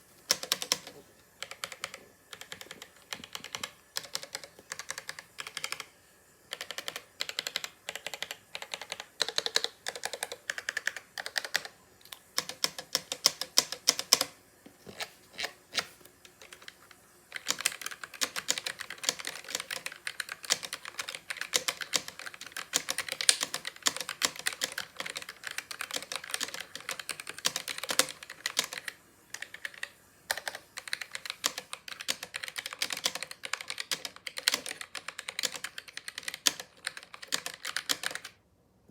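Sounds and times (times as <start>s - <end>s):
mechanical keyboard typing: 0.3s - 5.9s, 6.5s - 38.4s.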